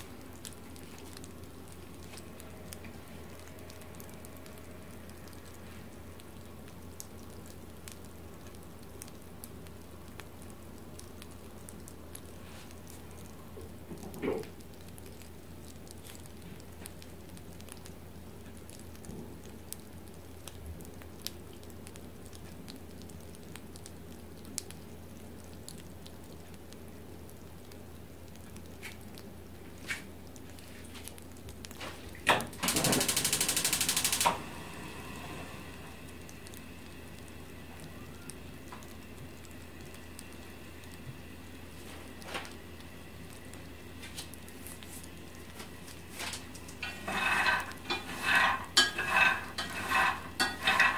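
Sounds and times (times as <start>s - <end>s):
faint steady hum: 0.0s - 50.9s
roasted peanuts ticking and popping: 0.0s - 50.9s.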